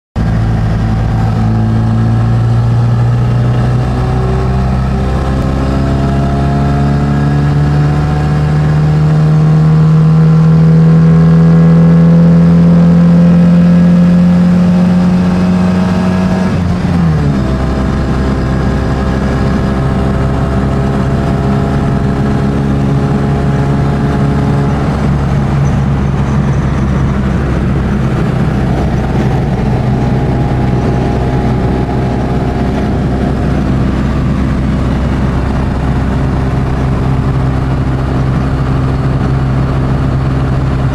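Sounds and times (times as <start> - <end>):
car engine accelerating: 0.2 - 40.9.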